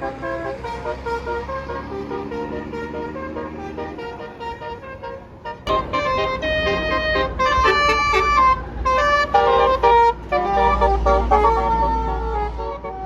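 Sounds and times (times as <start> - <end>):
bus horn playing a tune: 0.0 - 13.0
low engine rumble: 0.0 - 13.0.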